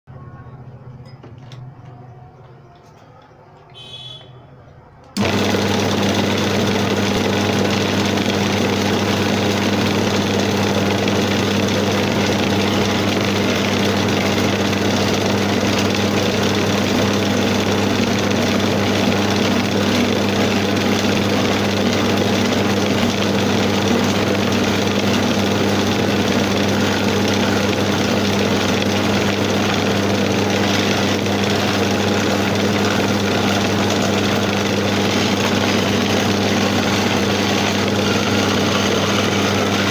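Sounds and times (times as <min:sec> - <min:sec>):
chisel cutting spinning wood: 0:05.2 - 0:39.9
lathe motor humming: 0:05.2 - 0:39.9.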